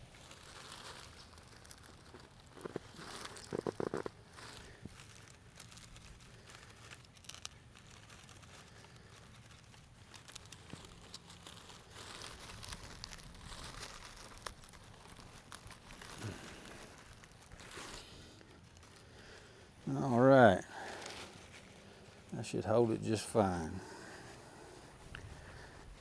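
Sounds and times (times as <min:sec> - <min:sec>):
material crinkling and rustling: 0:00.0 - 0:26.0.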